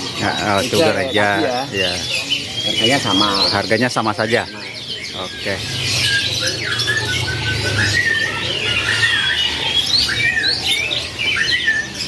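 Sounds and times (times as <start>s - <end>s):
canaries chirping: 0.0s - 12.0s.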